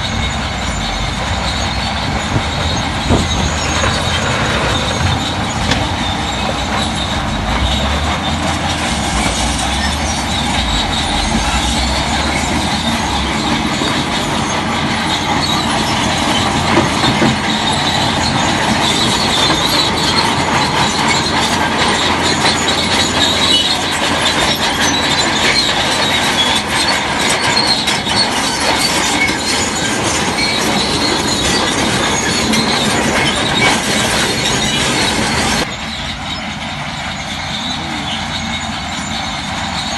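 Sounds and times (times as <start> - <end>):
bulldozer engine rumble: 0.0 - 39.9
bulldozer tracks squealing and clanking: 0.0 - 39.9.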